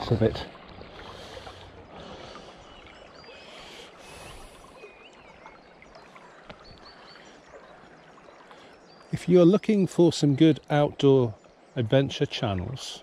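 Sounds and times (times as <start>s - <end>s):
river water flowing: 0.0s - 13.0s
small birds chirping: 0.1s - 13.0s.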